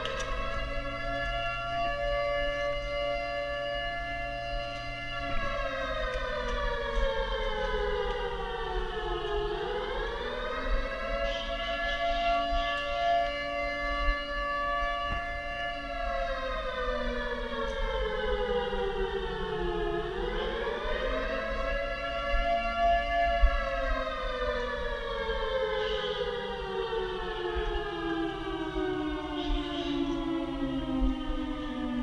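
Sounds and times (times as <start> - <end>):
siren wailing: 0.0 - 32.0.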